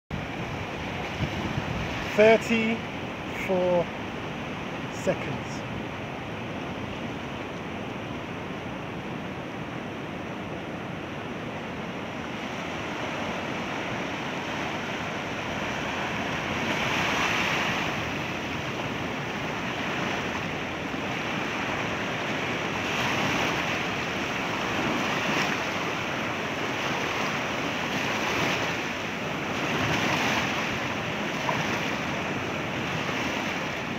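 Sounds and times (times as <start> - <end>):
wind on microphone: 0.1 - 2.2, 5.5 - 33.9
ocean surf over rocks: 0.1 - 33.9.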